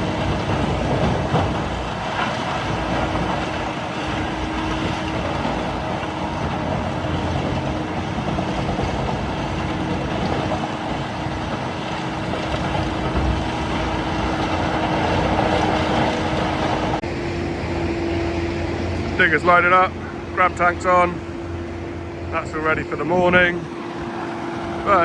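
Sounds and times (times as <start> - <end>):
constant whine: 0.0 - 25.0
diesel machinery running: 0.0 - 25.0.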